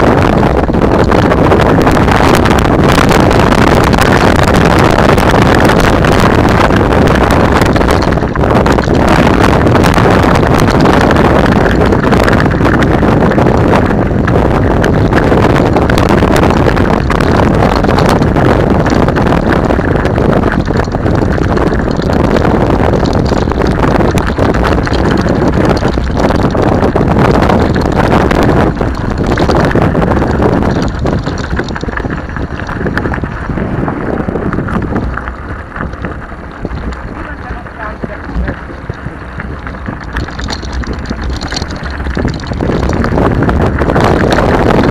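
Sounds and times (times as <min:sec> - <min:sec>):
bike rattling over loose stones: 0:00.0 - 0:44.9
wind buffeting microphone: 0:00.0 - 0:44.9.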